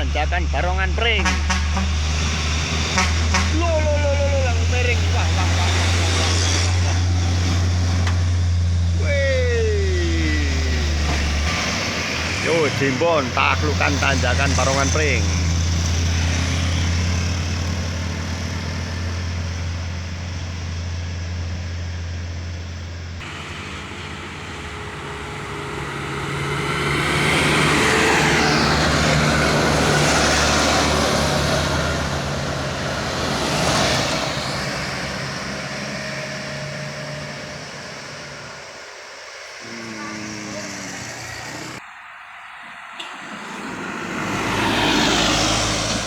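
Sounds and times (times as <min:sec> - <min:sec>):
diesel truck engines under load: 0:00.0 - 0:46.0.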